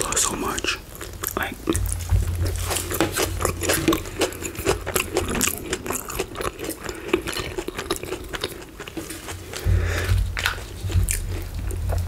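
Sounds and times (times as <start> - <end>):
close chewing with mouth clicks: 0.0 - 12.0
crispy breading crackling: 0.0 - 12.0.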